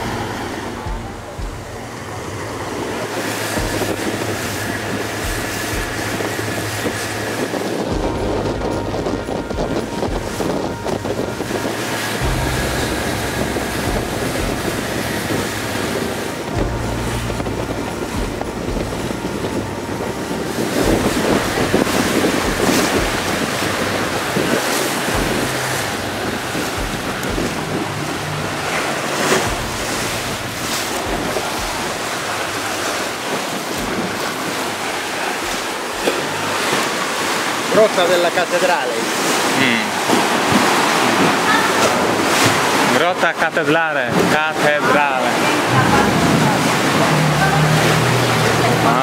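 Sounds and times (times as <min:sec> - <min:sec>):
water splashing along hull: 0:00.0 - 0:49.0
wind buffeting microphone: 0:00.0 - 0:49.0.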